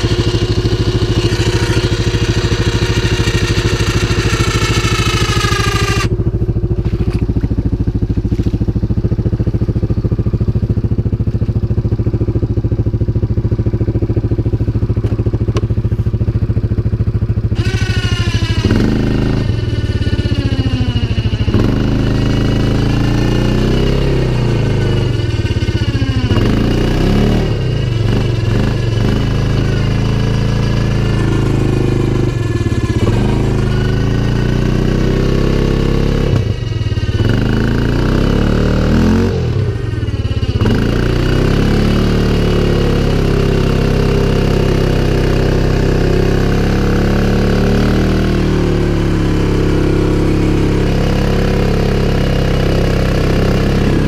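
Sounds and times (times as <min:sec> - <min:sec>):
engine running and revving: 0:00.0 - 0:54.0.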